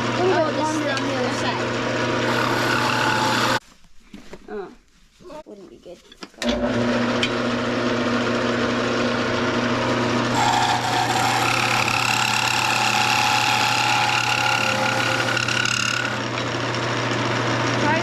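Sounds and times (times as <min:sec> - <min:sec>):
lathe motor running: 0:00.0 - 0:03.6, 0:06.4 - 0:18.0
tool scraping spinning wood: 0:00.0 - 0:03.6, 0:06.5 - 0:18.0.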